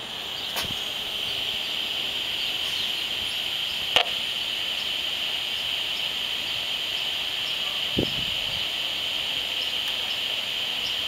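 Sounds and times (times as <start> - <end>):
high-pitched hiss from meter speaker: 0.0 - 11.0.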